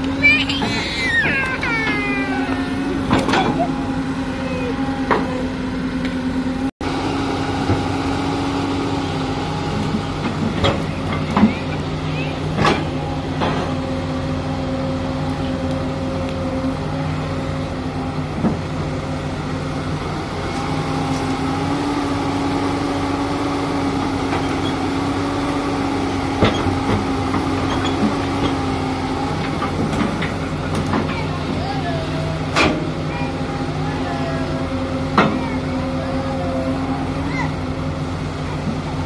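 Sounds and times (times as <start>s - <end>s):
excavator diesel engine and hydraulics: 0.0s - 39.0s.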